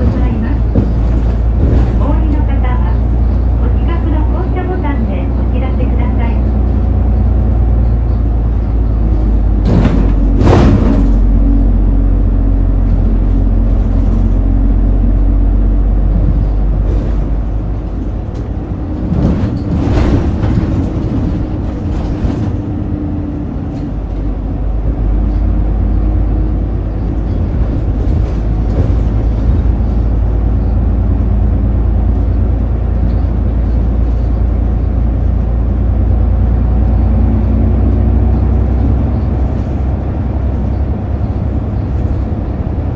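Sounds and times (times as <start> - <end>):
bus engine and road rumble: 0.0 - 42.9.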